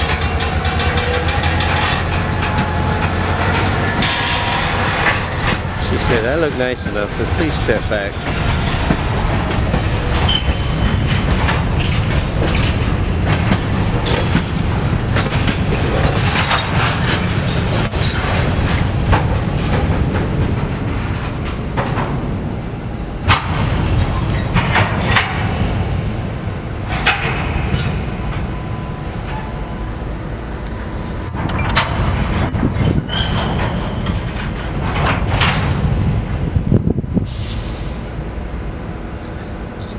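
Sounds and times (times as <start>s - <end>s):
diesel locomotive rumble: 0.0s - 39.9s
wheels clanking over rail joints: 0.0s - 39.9s.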